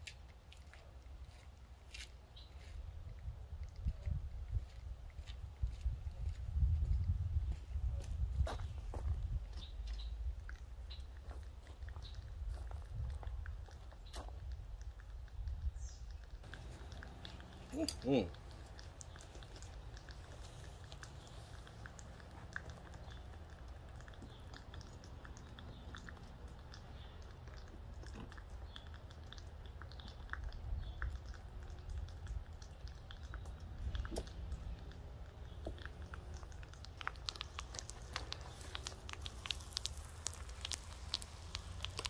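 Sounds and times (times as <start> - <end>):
furnace low rumble: 2.9 - 42.0.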